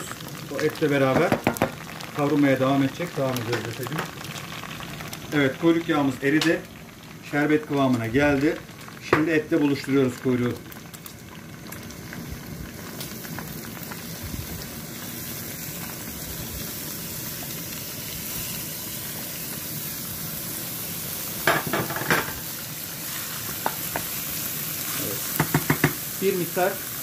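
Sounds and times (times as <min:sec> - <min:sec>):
meat sizzling in fat: 0:00.0 - 0:27.0.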